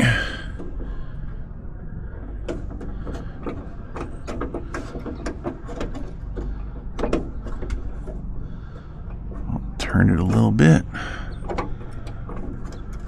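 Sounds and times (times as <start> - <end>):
low steady hum: 0.0 - 3.2, 5.7 - 13.0.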